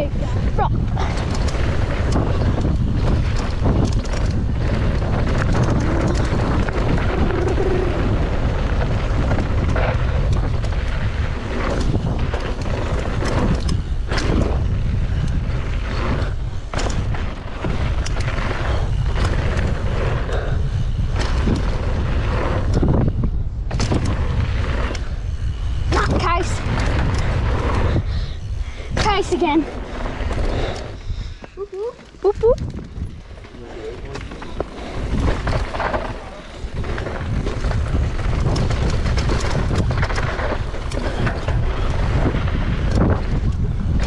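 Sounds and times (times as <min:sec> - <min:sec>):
bike knocks and rattles: 0:00.0 - 0:31.0, 0:32.0 - 0:44.0
tyres on dirt: 0:00.0 - 0:44.0
wind buffeting microphone: 0:00.0 - 0:44.0.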